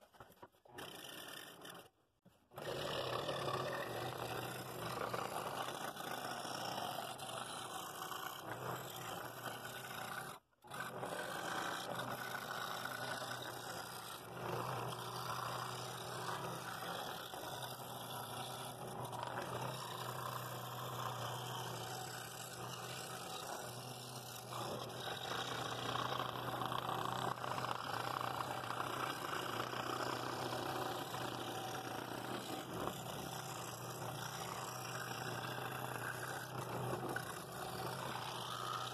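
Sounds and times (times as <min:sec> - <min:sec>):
scroll saw cutting wood: 0:00.0 - 0:38.9.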